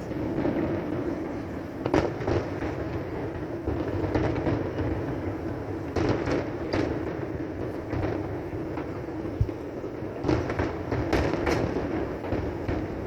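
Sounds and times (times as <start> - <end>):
distant fireworks bangs: 0.0 - 13.0.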